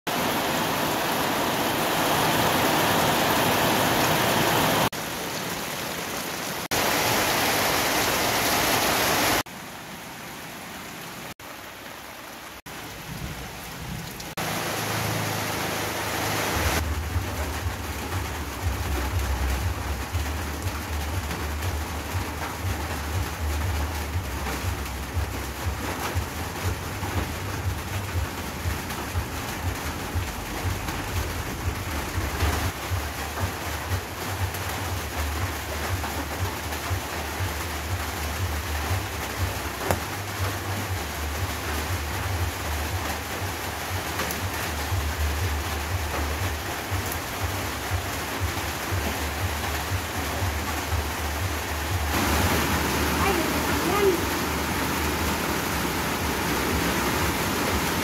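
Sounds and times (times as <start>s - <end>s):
heavy rain splashing: 0.1s - 58.0s.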